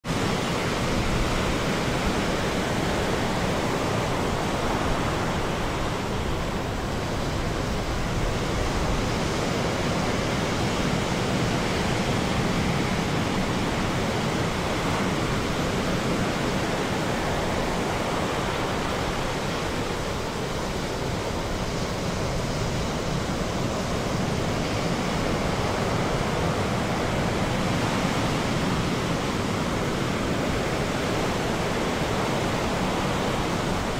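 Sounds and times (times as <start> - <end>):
ocean waves breaking: 0.0 - 33.9.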